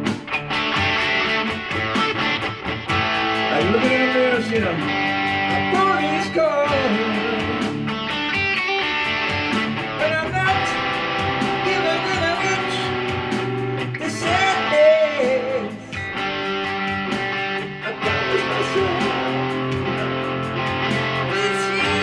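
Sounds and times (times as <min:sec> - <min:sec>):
electric guitar lead with bent notes: 0:00.0 - 0:22.0
rock band with drums: 0:00.0 - 0:22.0.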